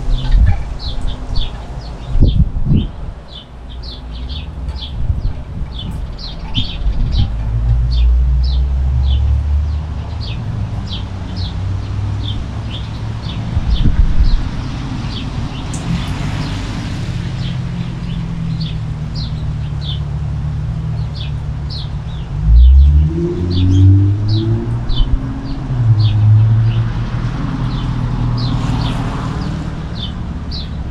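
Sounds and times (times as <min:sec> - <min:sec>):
low rumble of traffic: 0:00.0 - 0:30.9
vehicle passing: 0:00.0 - 0:30.9.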